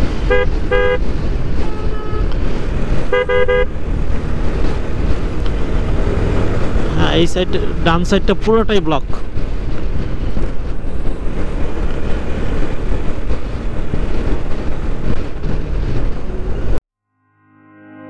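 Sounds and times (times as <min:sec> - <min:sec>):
motorcycle engine: 0:00.0 - 0:16.8
road noise: 0:00.0 - 0:16.8
wind buffeting microphone: 0:00.0 - 0:16.8.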